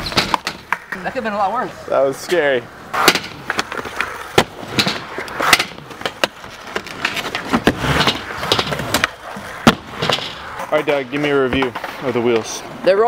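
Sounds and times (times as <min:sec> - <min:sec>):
skateboard clacks: 0:00.0 - 0:01.2, 0:03.0 - 0:12.5
skateboard rolling over concrete: 0:00.0 - 0:13.0.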